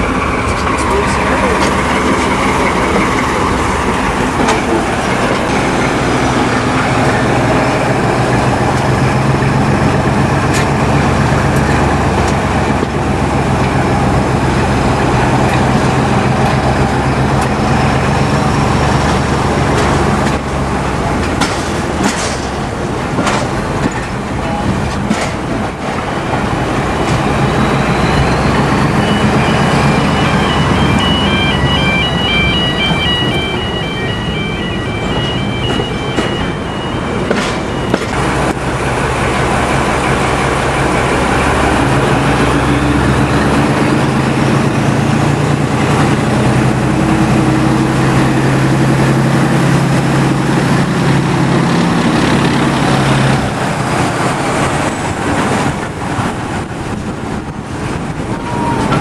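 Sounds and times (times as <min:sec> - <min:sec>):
diesel engine running: 0:00.0 - 0:59.0
wheels rumbling on track: 0:00.0 - 0:59.0.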